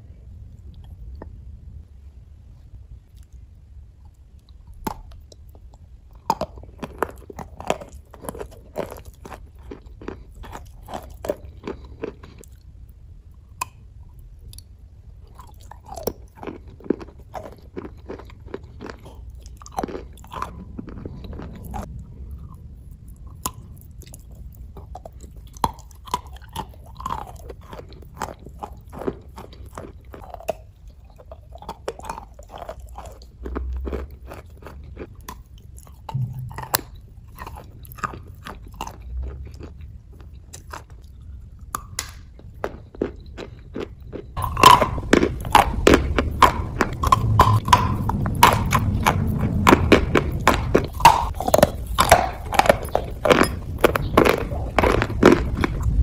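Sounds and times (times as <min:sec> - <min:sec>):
low steady hum: 0:00.0 - 0:56.0
crunching bites and chewing: 0:04.0 - 0:56.0.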